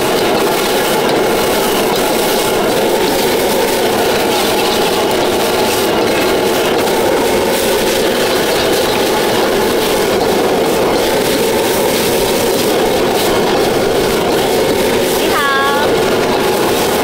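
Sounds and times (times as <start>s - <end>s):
gas burner roar: 0.0s - 17.0s.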